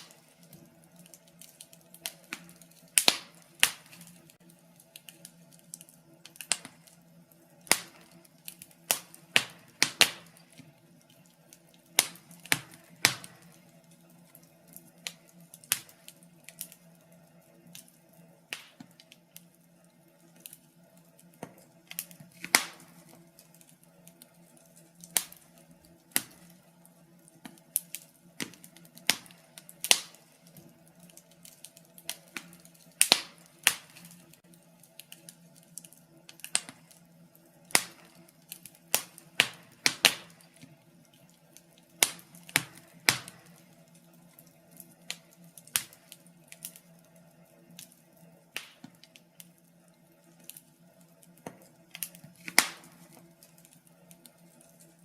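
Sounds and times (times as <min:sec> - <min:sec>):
steady low hum: 0:00.0 - 0:55.0
wood fire crackling and popping: 0:00.0 - 0:55.0.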